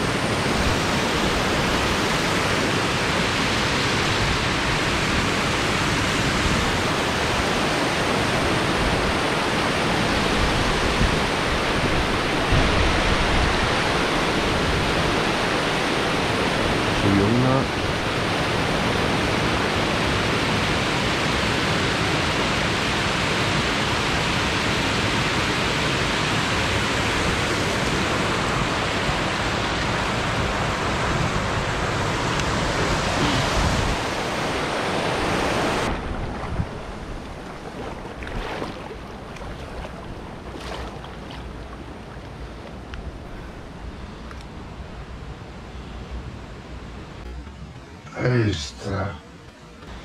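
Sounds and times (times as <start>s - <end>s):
stream water rushing: 0.0s - 50.0s.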